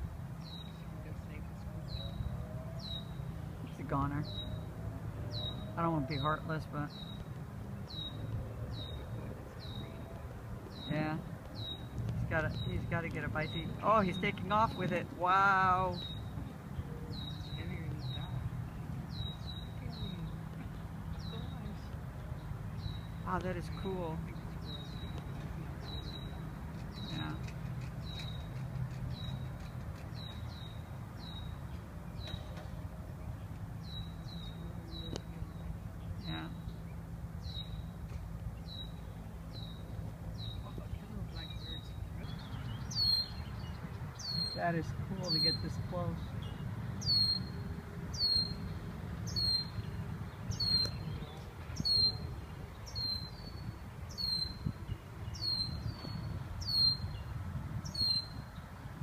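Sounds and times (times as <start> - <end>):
blackbird alarm call: 0.4 - 58.6.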